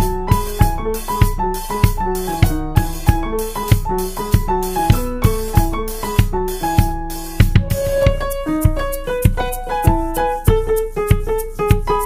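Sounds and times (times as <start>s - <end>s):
drum beat: 0.0s - 12.0s
keyboard tune: 0.0s - 12.0s.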